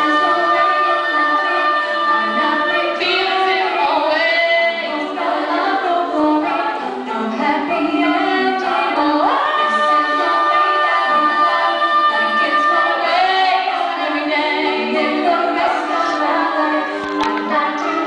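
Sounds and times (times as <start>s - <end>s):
women singing a cappella harmonies: 0.0s - 18.0s.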